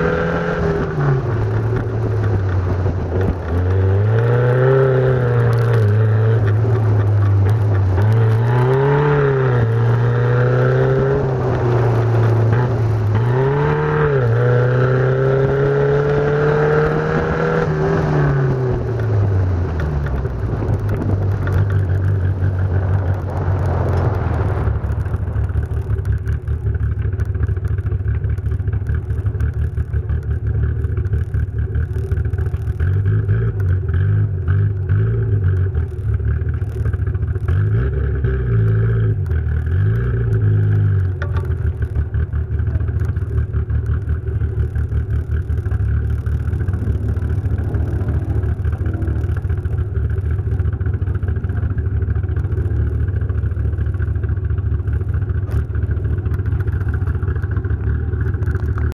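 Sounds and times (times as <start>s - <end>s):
car engine running: 0.0s - 58.9s
road and wind noise: 0.0s - 58.9s.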